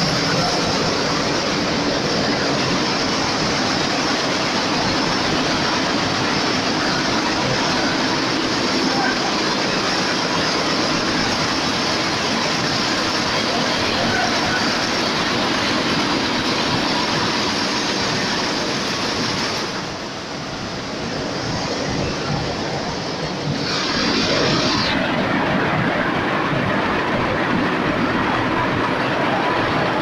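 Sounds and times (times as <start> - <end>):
embroidery machines clattering: 0.0 - 30.0.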